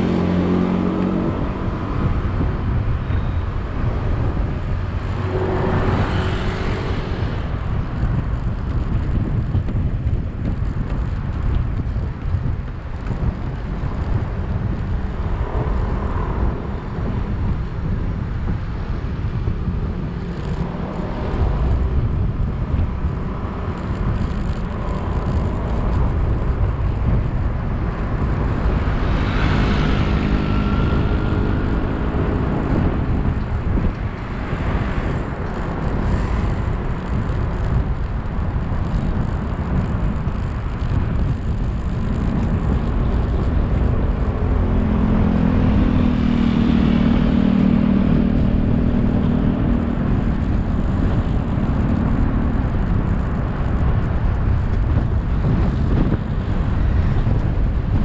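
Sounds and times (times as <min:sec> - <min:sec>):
vehicle engine and tyre rumble: 0:00.0 - 0:58.0
vehicles passing: 0:00.0 - 0:58.0.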